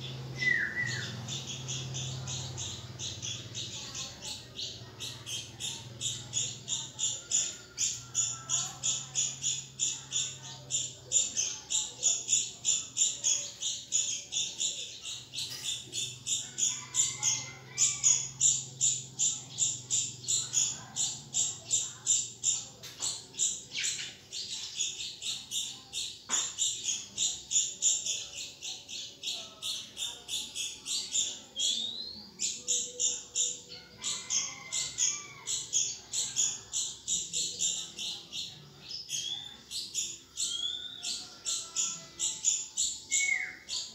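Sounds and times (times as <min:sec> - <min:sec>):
nestlings chirping: 0:00.0 - 0:43.9.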